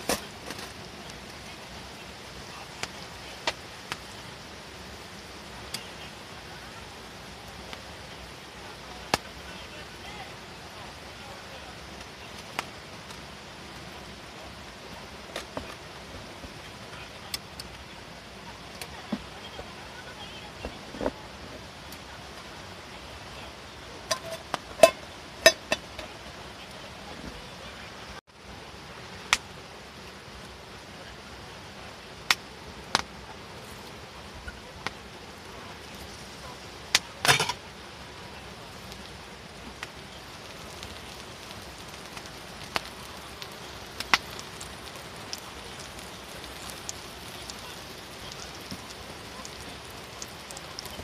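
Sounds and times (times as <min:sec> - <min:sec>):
fire pops: 0:00.0 - 0:27.9, 0:29.1 - 0:51.0
campfire crackling: 0:00.0 - 0:51.0
meat sizzling in a pot: 0:00.0 - 0:51.0.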